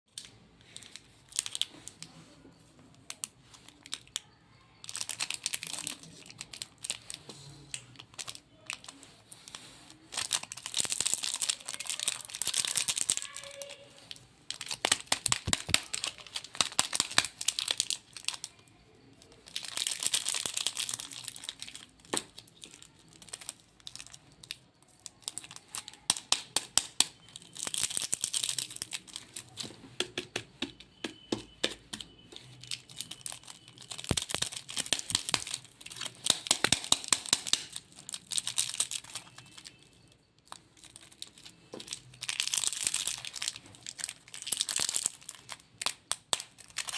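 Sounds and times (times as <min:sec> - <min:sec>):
plastic wrappers crinkling and tearing: 0:00.1 - 0:30.1, 0:31.2 - 0:46.9.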